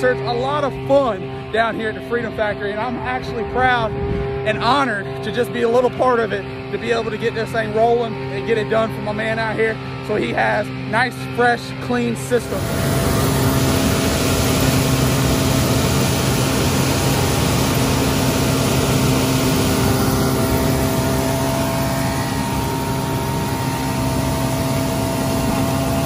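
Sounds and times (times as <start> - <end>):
vacuum truck engine drone: 0.0 - 26.0.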